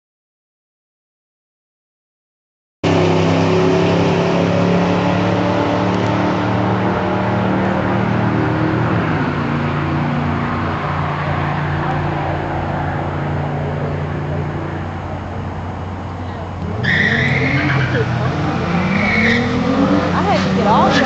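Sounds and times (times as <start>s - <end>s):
drag car engines running: 2.9s - 21.0s.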